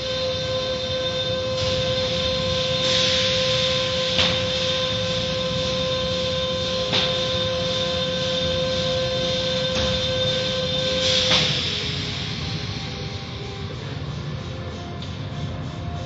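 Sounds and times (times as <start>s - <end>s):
machine whine: 0.0s - 16.0s.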